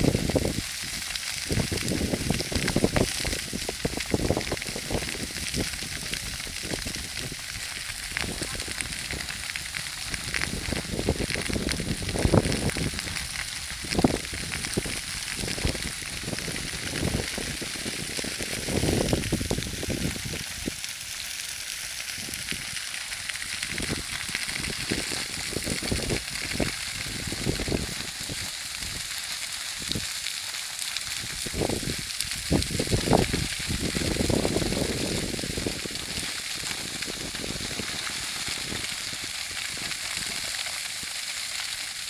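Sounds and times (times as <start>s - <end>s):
grass fire crackling and hissing: 0.0s - 42.0s.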